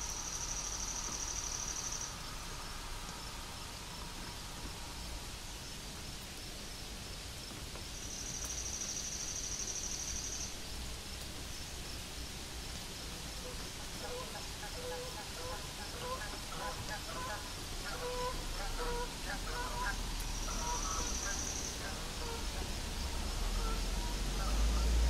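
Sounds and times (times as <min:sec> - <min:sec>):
outdoor hiss: 0:00.0 - 0:25.0.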